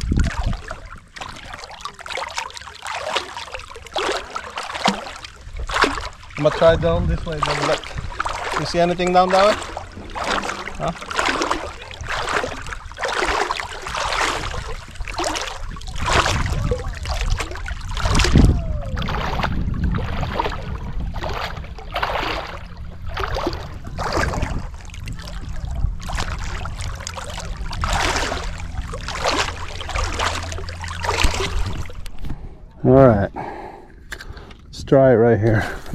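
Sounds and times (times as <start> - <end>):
paddle splashing water: 0.0 - 32.8
low steady rumble: 0.0 - 35.9.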